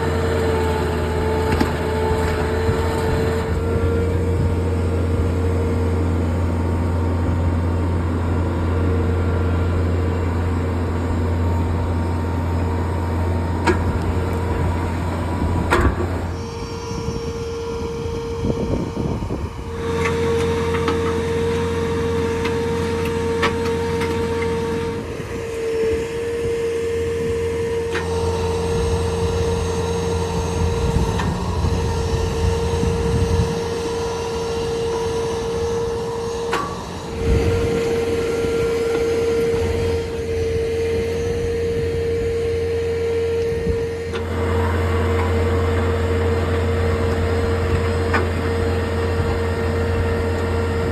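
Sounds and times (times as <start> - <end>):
hydraulic auger whine: 0.0 - 50.9
skid steer engine hum: 0.0 - 50.9.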